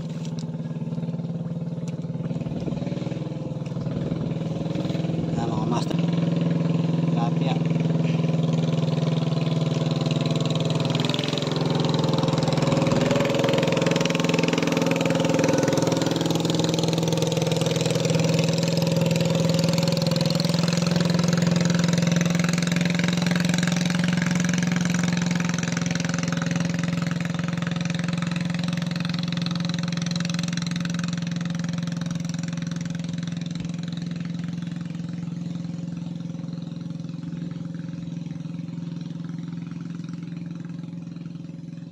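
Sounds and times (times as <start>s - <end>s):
engine droning: 0.0s - 41.9s.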